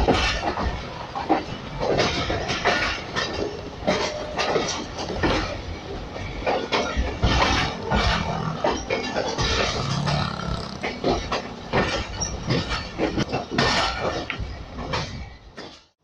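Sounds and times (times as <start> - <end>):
clanks and knocks: 0.0 - 15.9
steady train rumble: 0.0 - 16.0
train wheels clattering over rails: 0.0 - 16.0.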